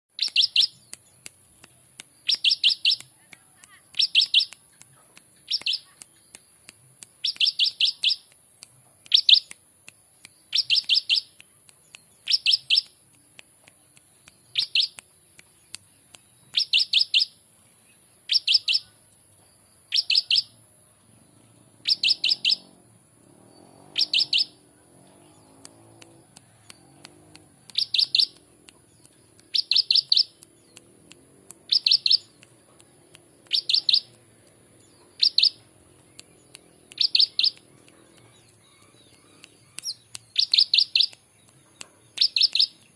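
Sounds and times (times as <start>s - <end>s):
bird singing sharp repeated notes: 0.1s - 42.9s.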